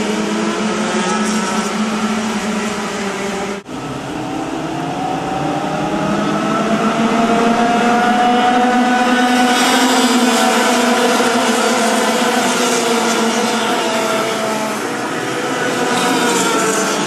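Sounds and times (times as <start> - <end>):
kart engines accelerating: 0.0 - 17.0.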